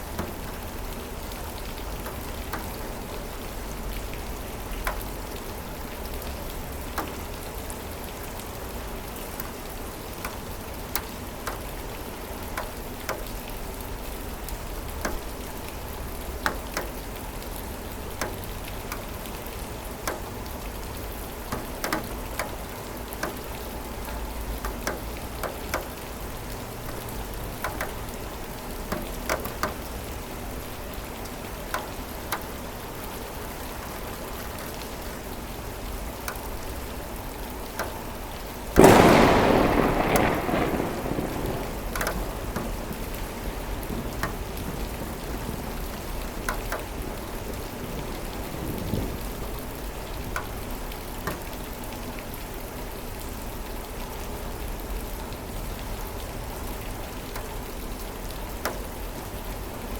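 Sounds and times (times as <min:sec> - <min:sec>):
raindrops ticking on a surface: 0:00.0 - 0:59.9
steady rain hiss: 0:00.0 - 0:59.9.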